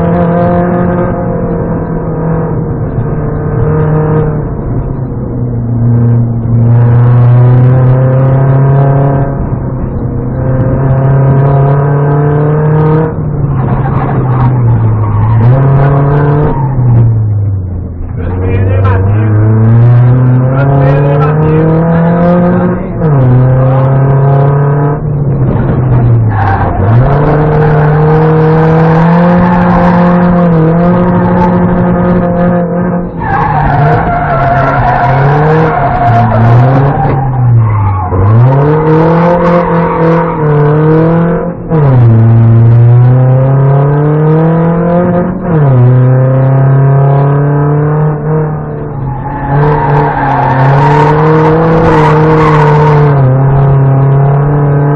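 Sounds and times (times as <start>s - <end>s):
rally car engine at full throttle: 0.0s - 54.9s.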